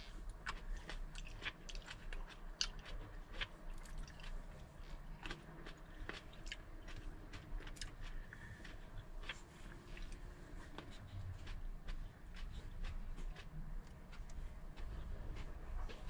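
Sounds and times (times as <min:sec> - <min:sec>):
person chewing grapes: 0:00.0 - 0:16.0.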